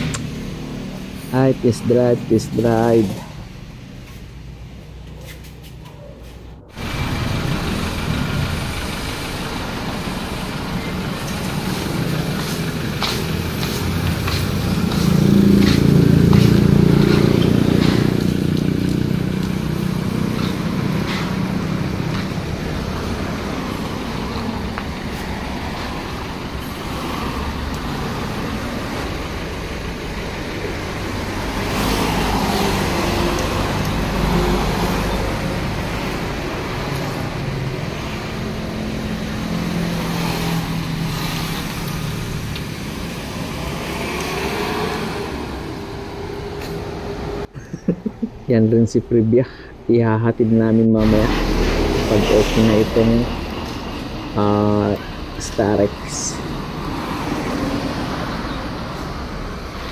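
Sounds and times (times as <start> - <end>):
diesel van engine running: 0.0 - 59.9.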